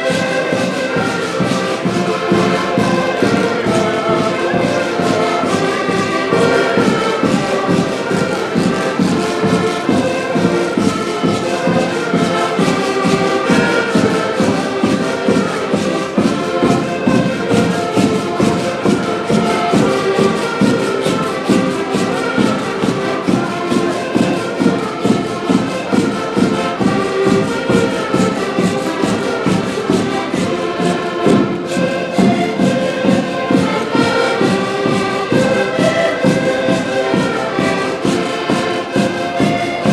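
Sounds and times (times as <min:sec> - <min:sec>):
brass band playing: 0:00.0 - 0:39.9
steady drum beat: 0:00.0 - 0:39.9.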